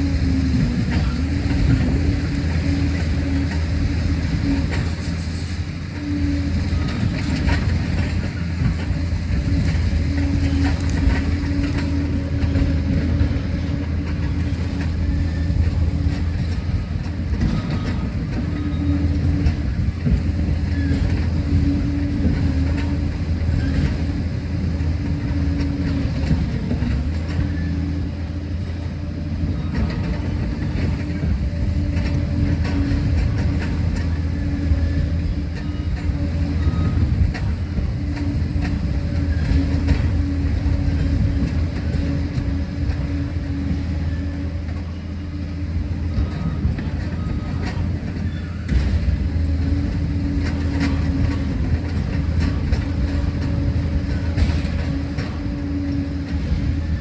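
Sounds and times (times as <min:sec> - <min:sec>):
diesel engine droning: 0:00.0 - 0:57.0
steel tracks clanking and rattling: 0:00.0 - 0:57.0.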